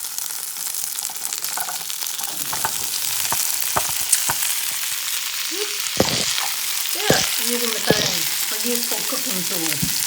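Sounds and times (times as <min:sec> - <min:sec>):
onions and tomatoes sizzling in pan: 0:00.0 - 0:10.0.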